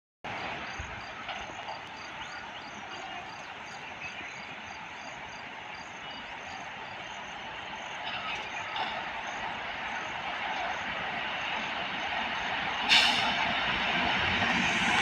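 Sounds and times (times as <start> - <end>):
crickets chirping: 0.6 - 15.0.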